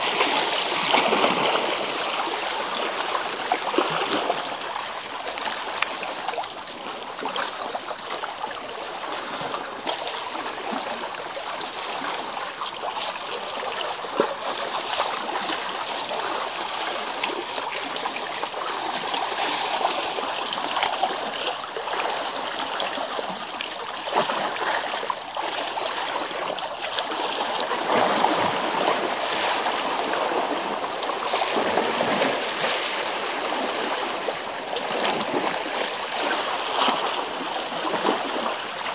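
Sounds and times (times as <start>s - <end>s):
sea water lapping among rocks: 0.0s - 38.9s.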